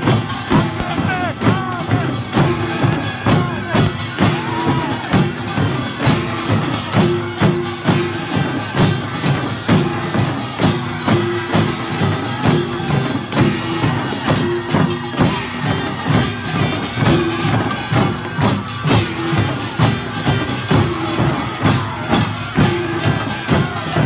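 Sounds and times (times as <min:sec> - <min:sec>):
drums beating: 0:00.0 - 0:24.0
small metal gongs beating: 0:00.0 - 0:24.0.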